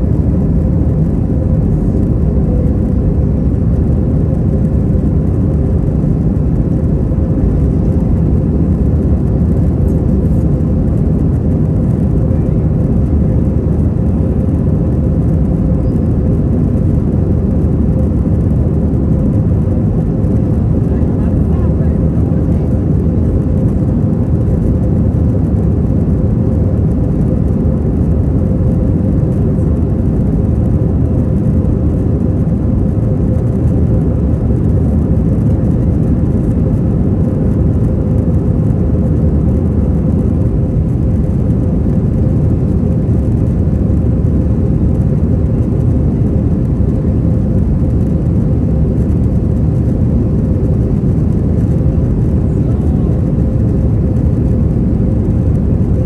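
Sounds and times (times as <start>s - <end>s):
jet cabin rumble: 0.0s - 56.0s.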